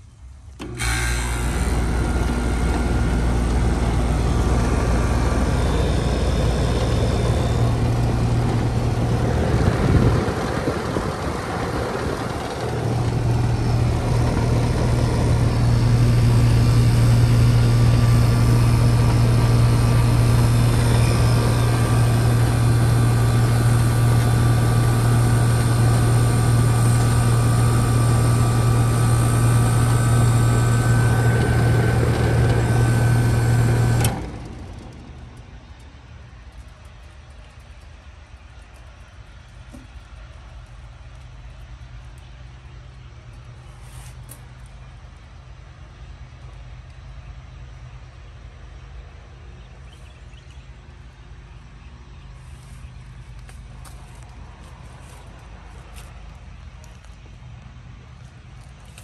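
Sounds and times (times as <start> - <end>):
compressor humming: 0.0 - 48.0
condenser fan whirring: 0.0 - 59.0.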